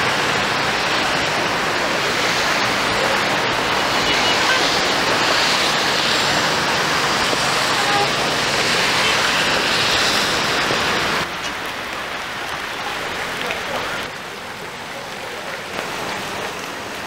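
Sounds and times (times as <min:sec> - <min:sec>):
heavy rain on flooded ground: 0:00.0 - 0:17.0
rushing floodwater: 0:00.0 - 0:17.0.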